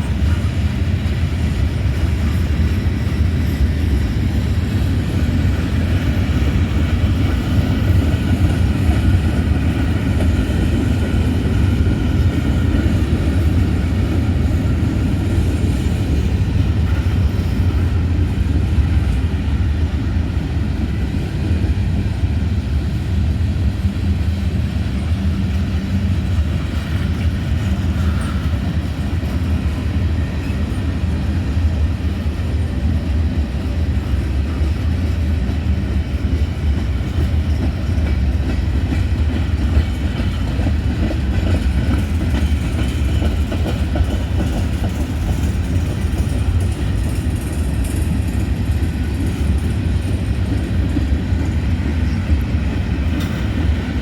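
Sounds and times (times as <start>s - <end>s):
rail clatter: 0.0s - 54.0s
steel wheels rumbling on rails: 0.0s - 54.0s.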